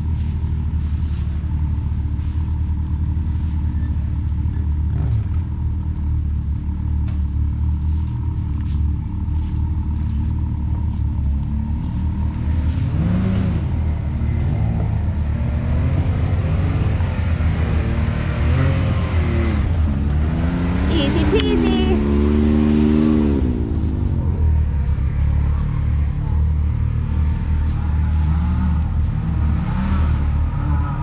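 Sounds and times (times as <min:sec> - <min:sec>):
vehicle engine revving: 0:00.0 - 0:31.0.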